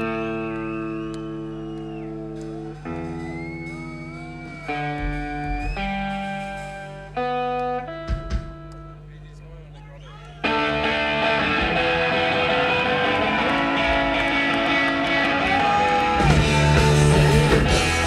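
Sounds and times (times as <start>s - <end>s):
electric guitar chords: 0.0s - 9.2s, 10.4s - 18.0s
guitar feedback tones: 0.0s - 18.0s.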